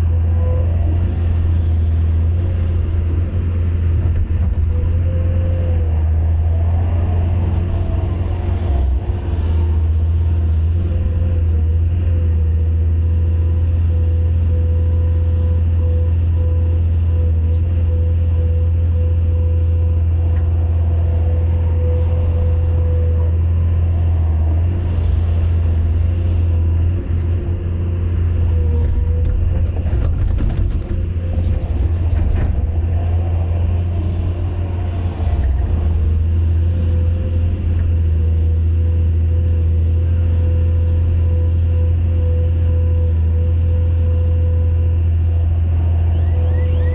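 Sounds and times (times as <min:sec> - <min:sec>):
diesel engine running: 0:00.0 - 0:46.9
engine whine: 0:00.0 - 0:46.9.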